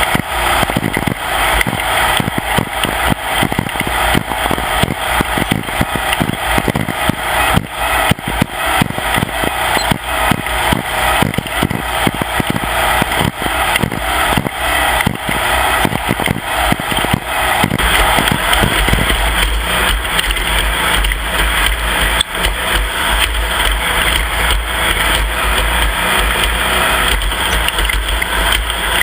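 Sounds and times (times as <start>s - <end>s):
race vehicle engine at speed: 0.0s - 29.0s.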